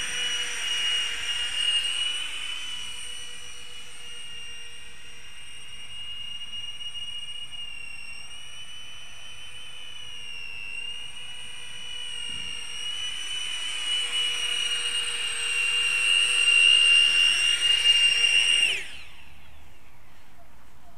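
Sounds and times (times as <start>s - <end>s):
fans spinning down: 0.0s - 20.3s
drone fans whining: 0.0s - 20.9s.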